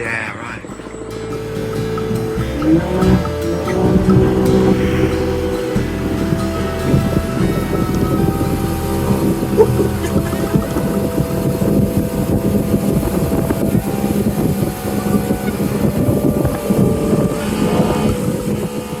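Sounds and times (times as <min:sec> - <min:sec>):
wind buffeting microphone: 0:00.0 - 0:19.0
motorboat engine running: 0:00.3 - 0:19.0.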